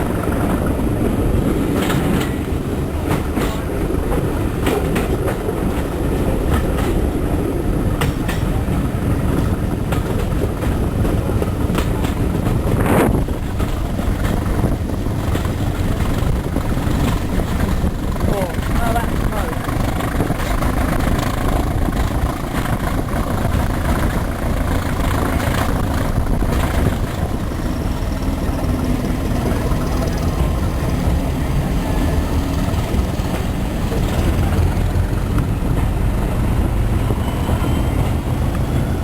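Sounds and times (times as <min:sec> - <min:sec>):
rush of train noise: 0:00.0 - 0:39.0
train rumbling on track: 0:00.0 - 0:39.0
wheels clicking over rail joints: 0:00.0 - 0:39.0.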